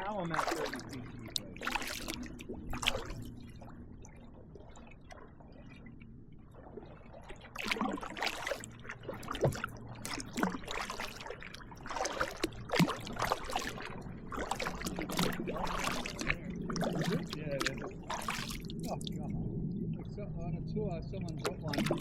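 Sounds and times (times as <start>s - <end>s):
paddle splashing and dripping: 0.0s - 20.3s, 21.0s - 22.0s
faint water lapping: 0.0s - 22.0s.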